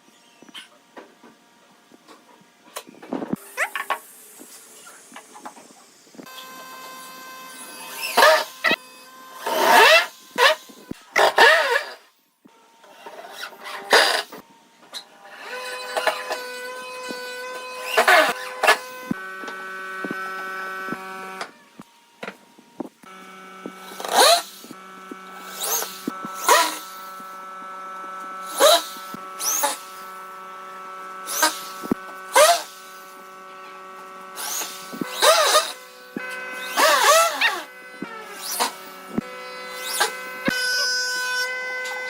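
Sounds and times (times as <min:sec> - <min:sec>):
power tool motor humming: 0:03.0 - 0:42.0.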